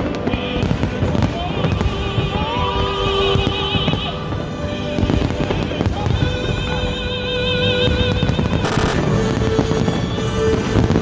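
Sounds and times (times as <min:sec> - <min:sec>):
fireworks bangs and rumbling: 0:00.0 - 0:11.0
music with vibrato notes: 0:00.0 - 0:11.0
sharp fireworks crackle: 0:00.0 - 0:11.0.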